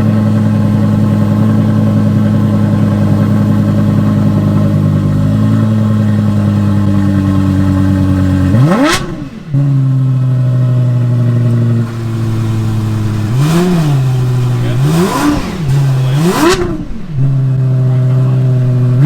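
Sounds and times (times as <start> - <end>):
car engine idling: 0.0 - 19.0
engine throttle blip: 0.0 - 19.0.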